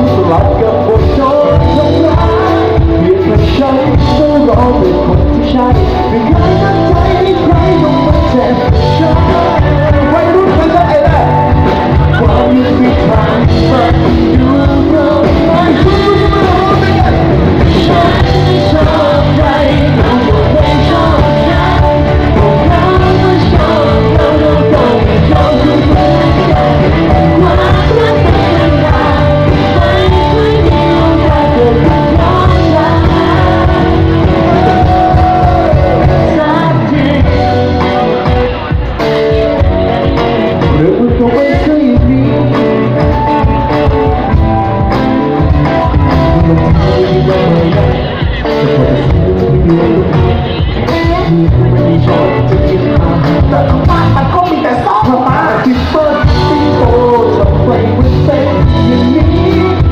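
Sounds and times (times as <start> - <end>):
live rock band playing: 0.0 - 59.9
man singing: 0.0 - 59.9.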